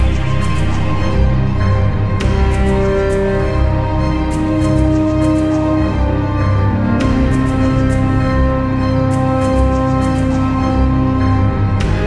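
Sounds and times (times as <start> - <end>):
music with held notes and bass: 0.0 - 12.0.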